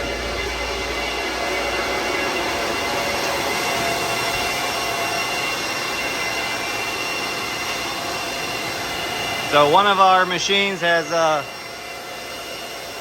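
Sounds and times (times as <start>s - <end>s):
cooling fans rushing air: 0.0s - 13.0s.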